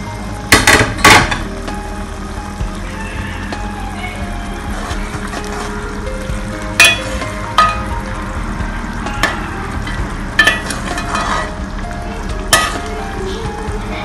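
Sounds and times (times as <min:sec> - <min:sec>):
gravy simmering hiss: 0:00.0 - 0:14.0.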